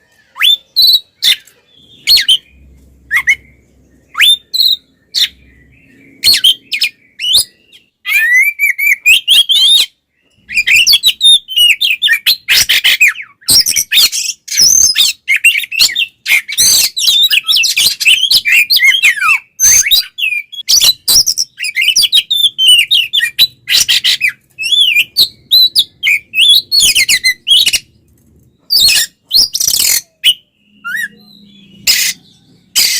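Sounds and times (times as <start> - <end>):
magpie-robin singing: 0.2 - 32.9.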